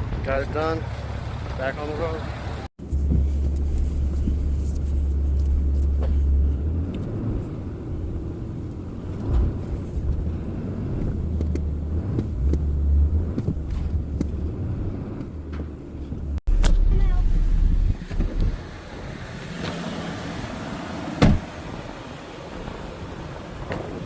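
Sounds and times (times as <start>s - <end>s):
road noise: 0.0s - 24.0s
truck engine rumble: 0.0s - 24.0s.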